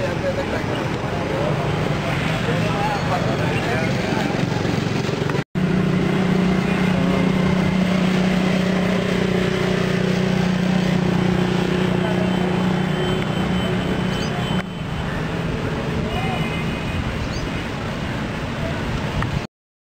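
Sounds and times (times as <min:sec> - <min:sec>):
traffic engine hum: 0:00.0 - 0:19.5.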